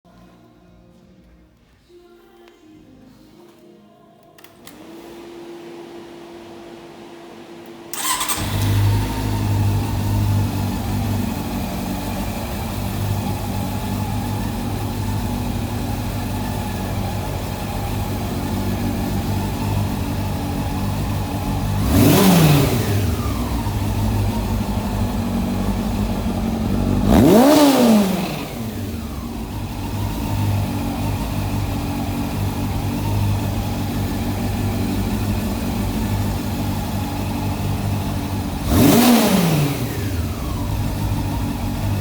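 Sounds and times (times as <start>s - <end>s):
motorcycle engine starting and idling: 4.4s - 42.0s
engine revving: 7.9s - 42.0s.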